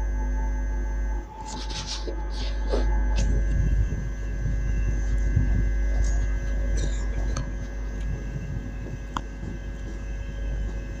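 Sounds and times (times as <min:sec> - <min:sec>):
electric train traction hum: 0:00.0 - 0:11.0.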